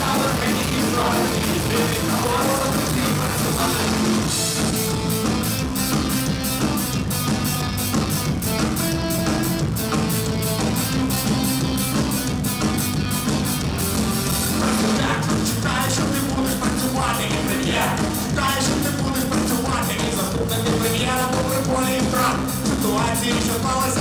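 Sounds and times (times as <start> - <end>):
drum kit fast beat: 0.0 - 24.0
ska-punk band playing: 0.0 - 24.0.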